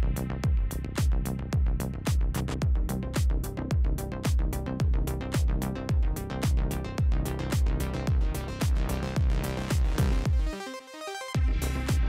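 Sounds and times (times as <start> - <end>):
deep kick drum: 0.0 - 10.5, 11.4 - 12.0
electronic music with steady beat: 0.0 - 12.0.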